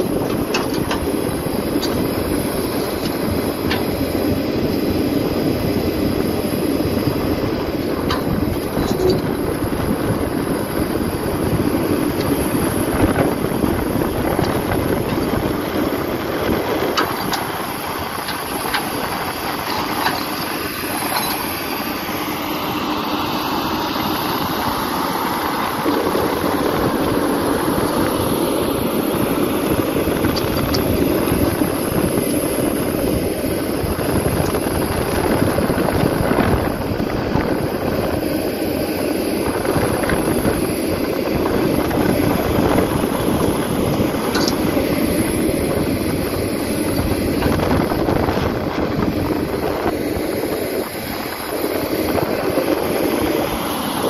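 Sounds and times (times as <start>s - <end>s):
excavator diesel engine under load: 0.0s - 54.0s.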